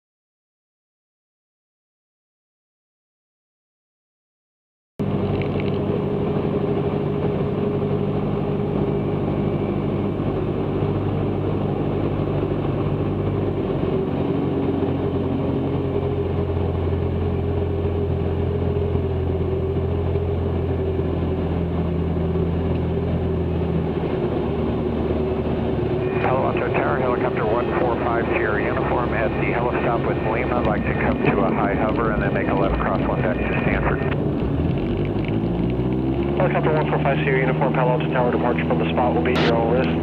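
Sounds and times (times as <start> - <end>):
aircraft engine and propeller in cockpit: 5.0 - 40.0.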